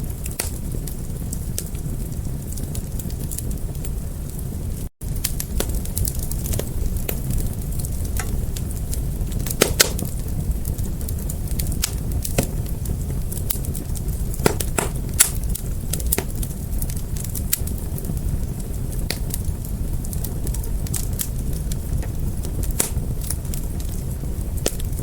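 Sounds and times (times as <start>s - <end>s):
fire crackling and popping: 0.0s - 25.0s.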